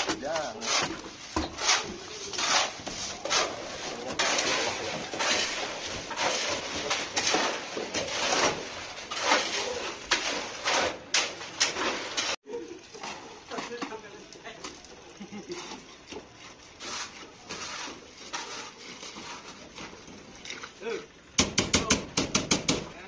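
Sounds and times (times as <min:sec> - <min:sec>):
hoe scraping wet concrete: 0:00.0 - 0:21.0.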